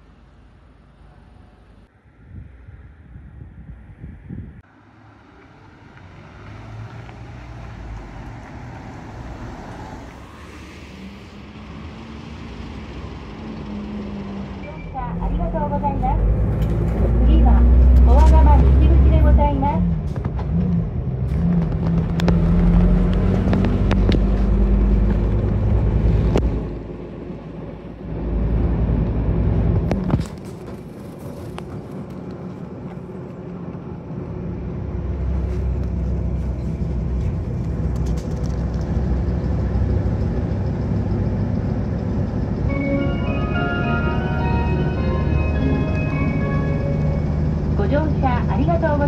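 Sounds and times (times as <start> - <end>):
bus engine running: 4.4 - 49.0.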